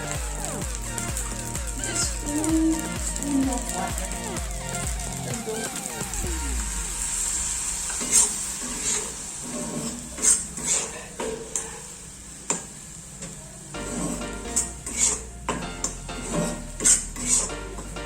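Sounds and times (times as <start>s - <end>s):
rice sizzling in a pan: 0.0s - 17.5s.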